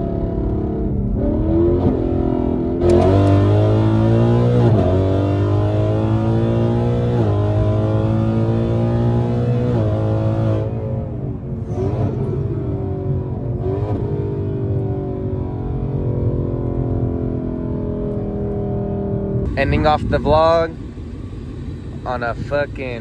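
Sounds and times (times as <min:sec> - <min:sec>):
car engine accelerating with upshifts: 0:00.0 - 0:23.0.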